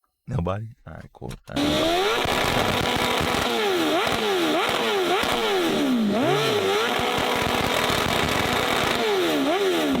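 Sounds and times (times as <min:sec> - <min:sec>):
car engine revving: 0:01.6 - 0:10.0.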